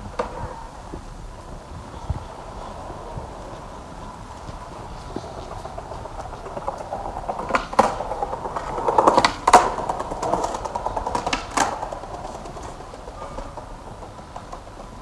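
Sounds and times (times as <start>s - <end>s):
skateboard wheels clacking over joints: 0.0s - 15.0s
skateboard wheels rolling on stone: 0.0s - 15.0s.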